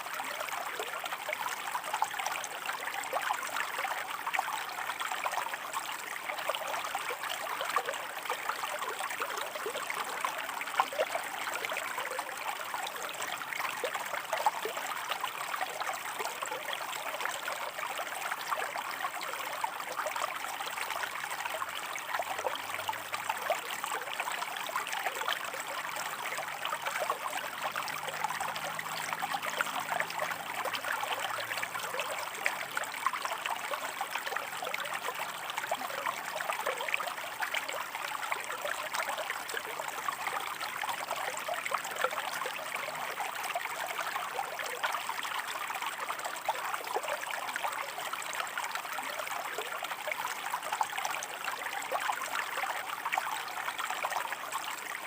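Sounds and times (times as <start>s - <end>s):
river water over rocks: 0.0s - 55.0s.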